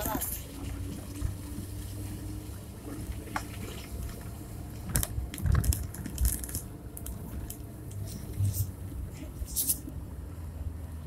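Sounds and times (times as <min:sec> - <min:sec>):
car engine running low: 0:00.0 - 0:11.0.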